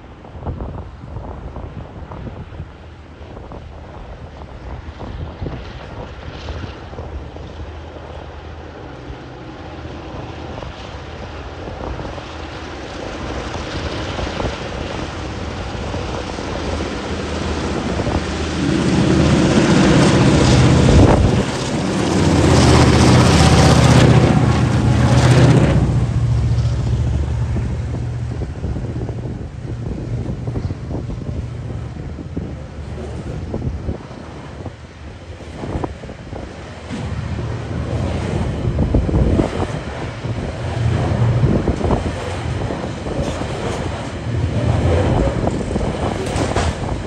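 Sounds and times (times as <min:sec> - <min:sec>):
diesel locomotives working hard: 0:00.0 - 0:47.0
wind noise on microphone: 0:00.0 - 0:47.0.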